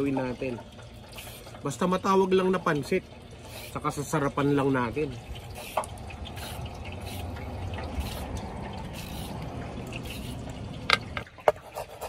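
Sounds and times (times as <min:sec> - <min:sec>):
water running from a tap: 0:00.0 - 0:11.4.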